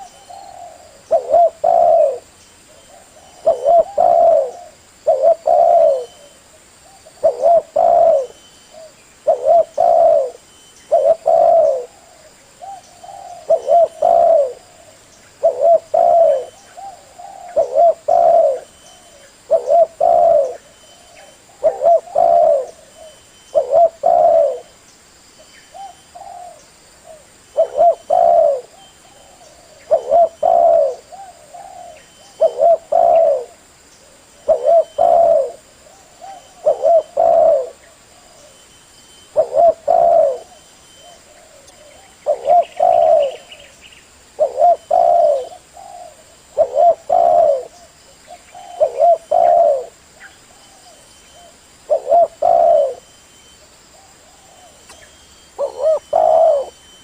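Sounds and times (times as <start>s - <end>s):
dove cooing: 0.0s - 24.7s, 25.7s - 43.7s, 44.3s - 53.2s, 53.9s - 57.0s.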